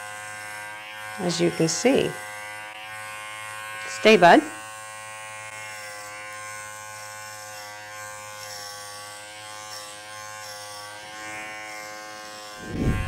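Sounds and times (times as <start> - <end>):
electric dog clipper buzzing: 0.0 - 13.0.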